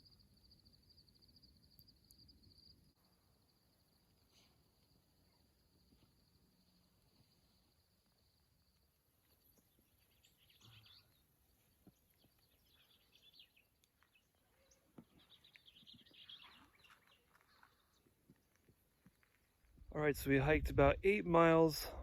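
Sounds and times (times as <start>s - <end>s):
faint bird chirps: 0.0s - 19.7s.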